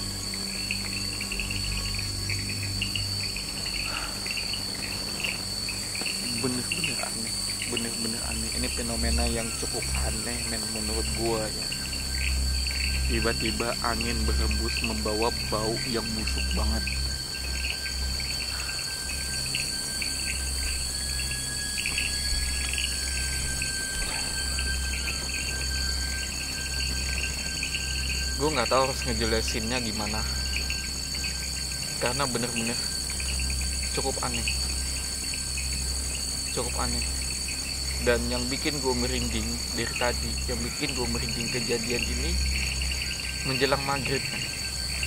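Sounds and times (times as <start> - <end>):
crickets chirping: 0.0 - 45.0
forest insects chorus: 0.0 - 45.0.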